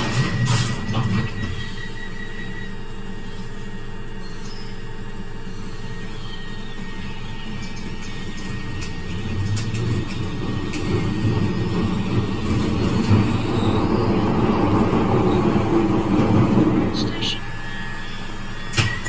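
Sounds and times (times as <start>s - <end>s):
train wheels rumbling in tunnel: 0.0s - 2.8s, 6.0s - 19.0s.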